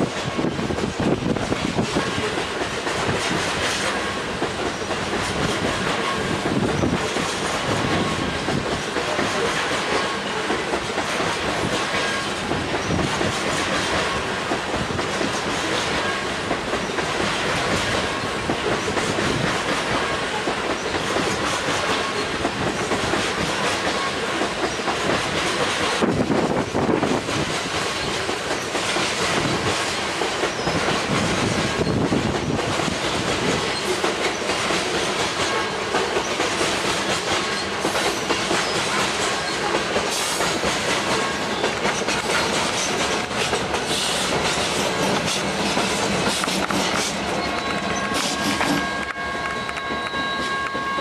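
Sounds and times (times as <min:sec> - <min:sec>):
train wheels clicking over rail joints: 0:00.0 - 0:51.0
faint ringing from wheels and rails: 0:01.8 - 0:25.0, 0:27.6 - 0:51.0.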